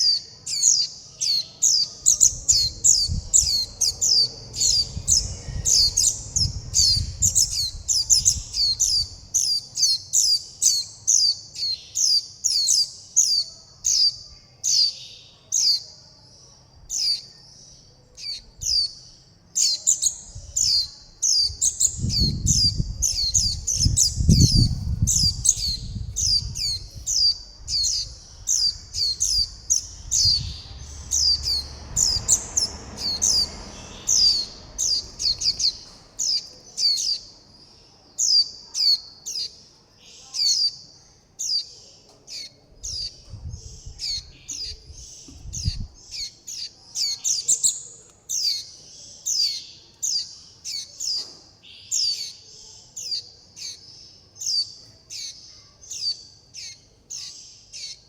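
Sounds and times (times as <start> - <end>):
fledgling birds chirping: 0.0 - 58.0.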